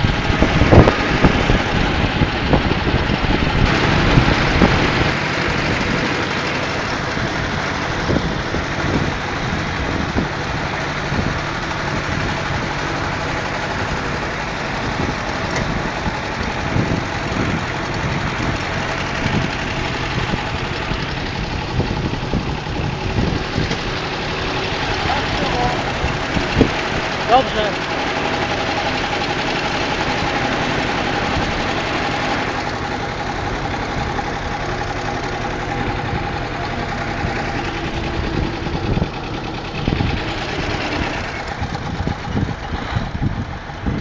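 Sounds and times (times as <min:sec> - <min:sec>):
tractor engine running: 0:00.0 - 0:44.0.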